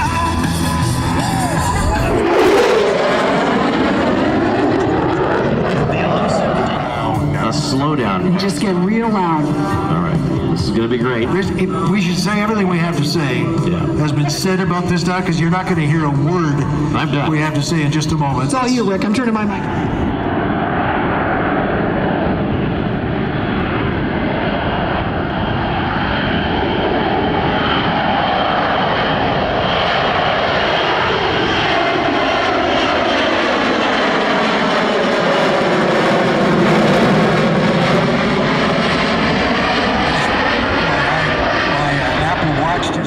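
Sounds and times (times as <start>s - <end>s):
jet engine roaring: 0.0s - 43.0s.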